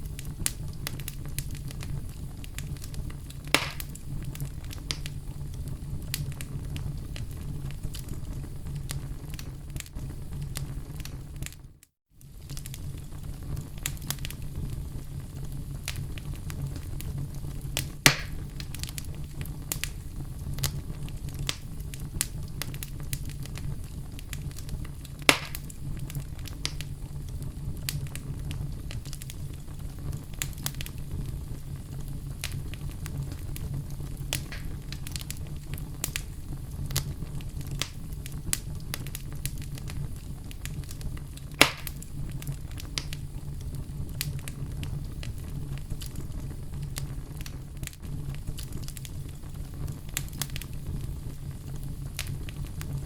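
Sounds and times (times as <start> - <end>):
sharp pops of fire: 0.0 - 53.0
wood fire crackling: 0.0 - 53.0.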